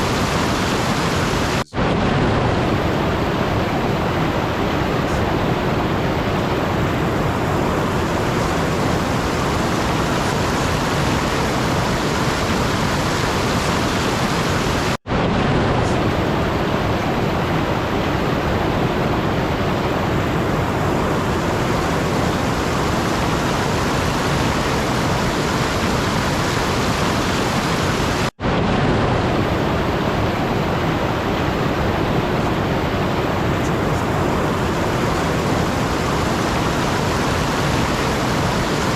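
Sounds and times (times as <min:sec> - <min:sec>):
steady rushing noise: 0:00.0 - 0:38.9.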